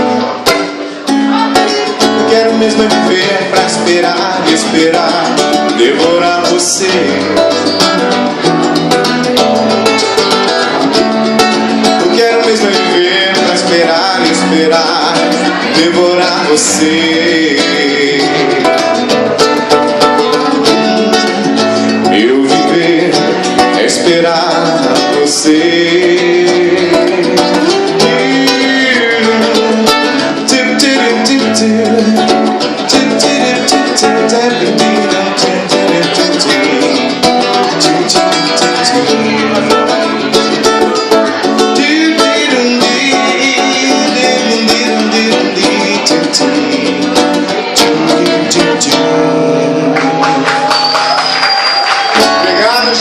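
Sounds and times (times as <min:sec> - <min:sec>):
man singing: 0:00.0 - 0:50.6, 0:52.2 - 0:53.0
acoustic guitar strumming: 0:00.0 - 0:53.0.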